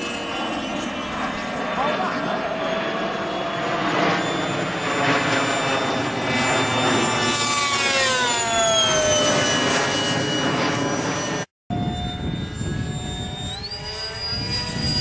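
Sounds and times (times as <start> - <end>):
model jet passing: 0.0 - 15.0.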